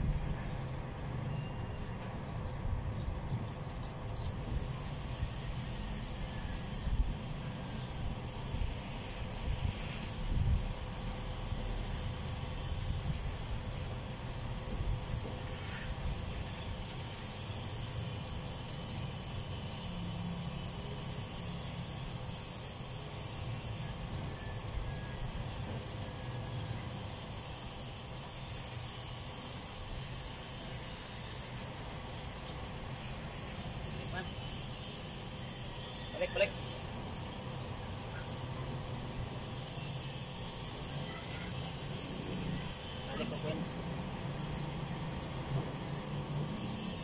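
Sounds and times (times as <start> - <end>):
high insect drone: 0.0 - 47.0.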